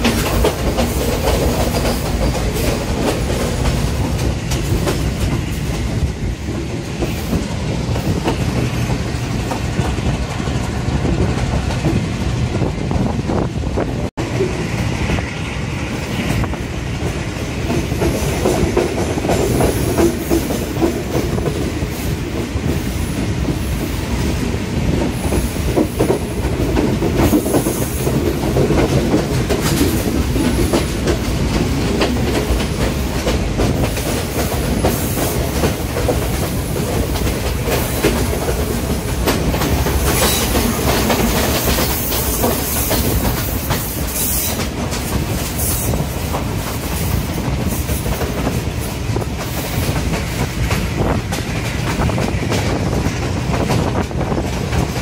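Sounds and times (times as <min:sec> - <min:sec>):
train wheels clattering over rail joints: 0:00.0 - 0:13.4, 0:15.9 - 0:55.0.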